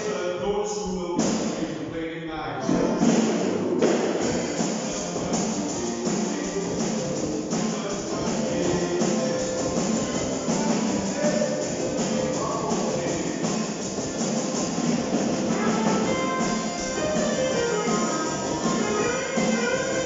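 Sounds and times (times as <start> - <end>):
drum kit beat: 0.0 - 1.9, 2.6 - 20.0
guitars: 2.6 - 20.0.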